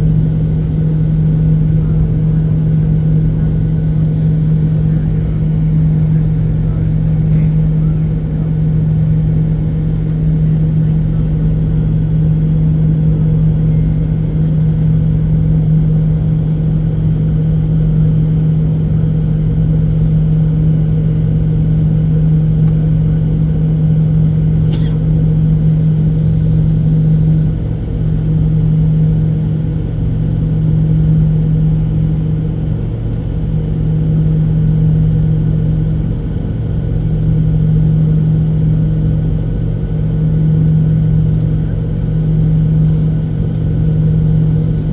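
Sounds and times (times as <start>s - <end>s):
airplane cabin engine hum: 0.0s - 44.9s.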